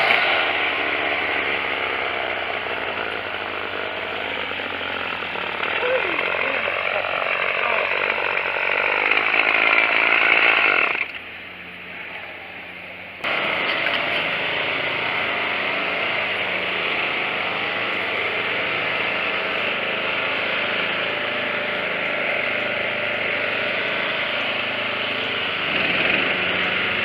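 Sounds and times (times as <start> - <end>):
string trimmer engine running: 0.0 - 27.0.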